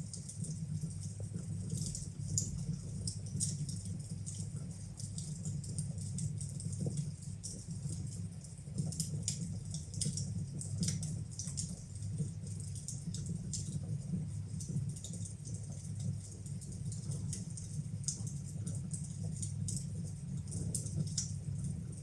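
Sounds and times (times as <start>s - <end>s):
fire crackling in fireplace: 0.0s - 22.0s.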